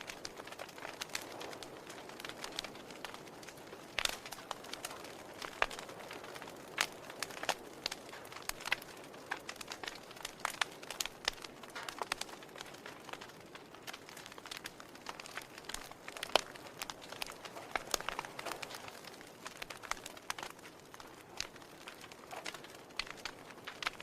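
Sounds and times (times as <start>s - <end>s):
fire pops and snaps: 0.0s - 24.0s
wood fire crackling: 0.0s - 24.0s.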